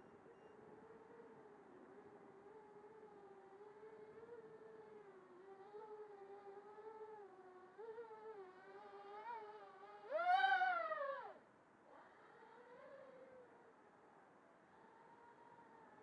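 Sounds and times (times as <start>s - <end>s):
quadcopter motors whining: 0.8s - 13.7s.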